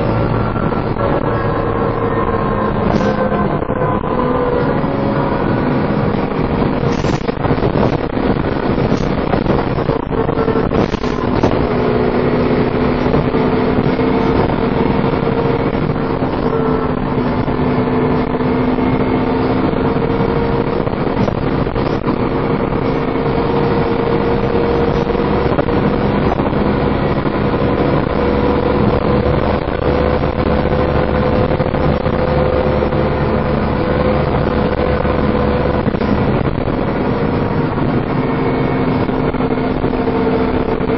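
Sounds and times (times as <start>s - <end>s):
bus engine whining: 0.0s - 40.9s.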